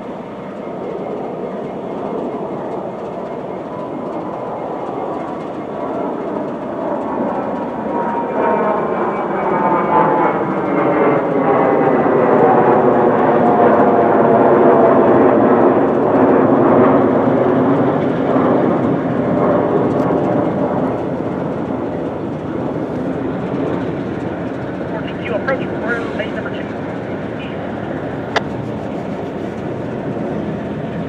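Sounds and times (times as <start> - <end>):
diesel locomotives passing: 0.0 - 31.0.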